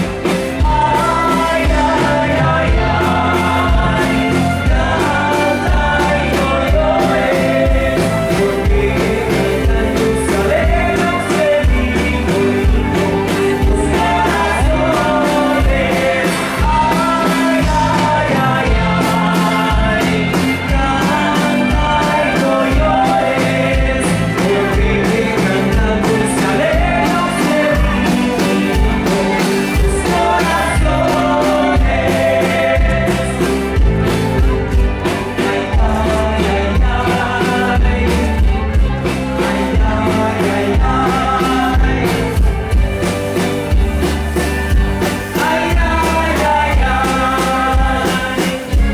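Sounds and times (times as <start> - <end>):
drums keeping steady beat: 0.0 - 48.9
live rock band playing: 0.0 - 48.9
person singing: 0.0 - 48.9.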